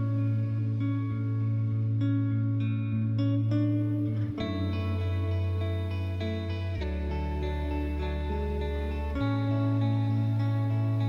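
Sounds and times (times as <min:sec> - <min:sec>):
plucked guitar music: 0:00.0 - 0:11.0
sustained bass note: 0:00.0 - 0:11.0.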